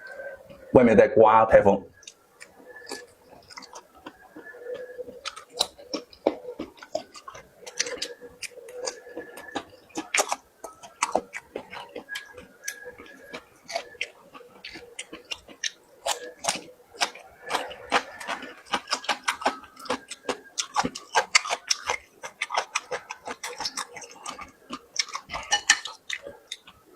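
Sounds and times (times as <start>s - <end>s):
person chewing and biting: 2.0s - 26.8s
wet mouth clicks and smacks: 2.0s - 26.8s.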